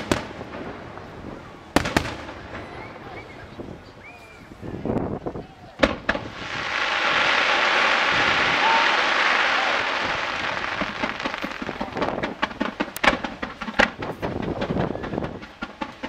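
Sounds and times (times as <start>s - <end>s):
fireworks bangs: 0.0s - 4.0s, 5.8s - 16.0s
fireworks hissing and crackling: 0.0s - 16.0s.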